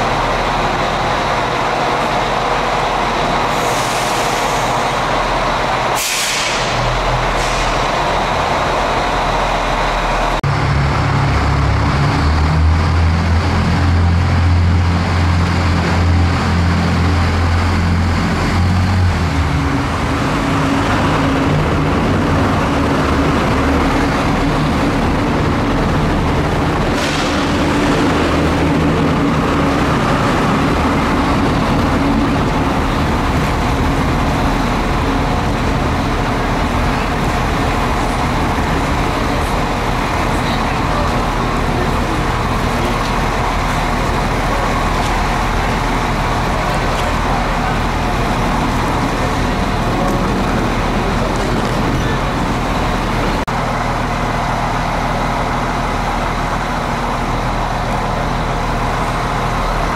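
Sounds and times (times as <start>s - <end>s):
train engine humming: 0.0s - 59.9s.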